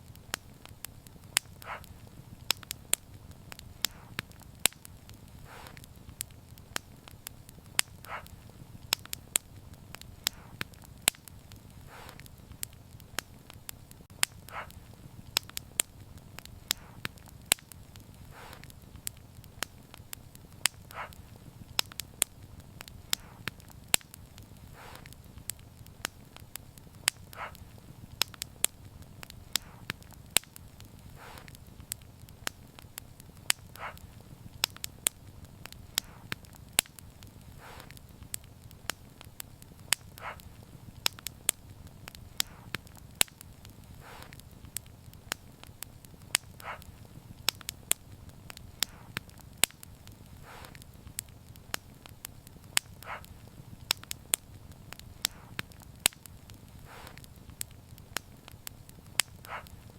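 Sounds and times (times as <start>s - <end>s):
low rumble of burning: 0.0s - 59.9s
wood fire crackling: 0.0s - 59.9s.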